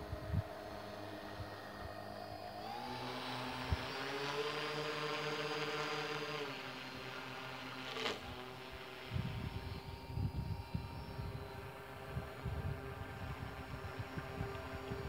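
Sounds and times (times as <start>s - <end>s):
small motor and propeller whining: 0.0s - 15.0s.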